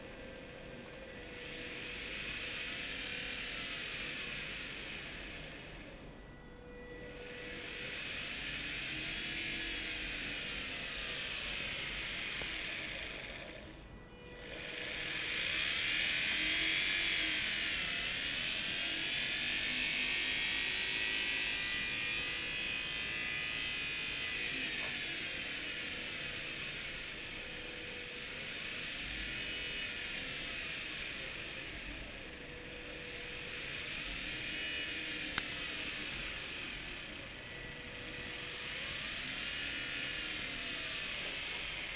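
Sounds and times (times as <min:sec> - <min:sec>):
electric motor whining: 0:00.0 - 0:41.9.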